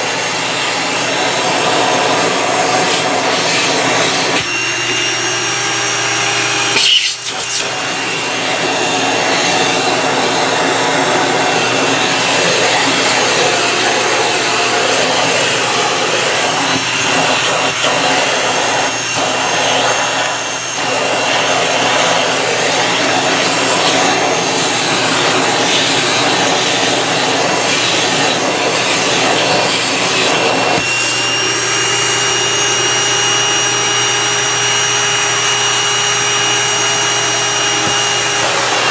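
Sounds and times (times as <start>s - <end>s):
vacuum cleaner running: 0.0s - 38.9s
vacuum tool scraping floor: 0.0s - 38.9s.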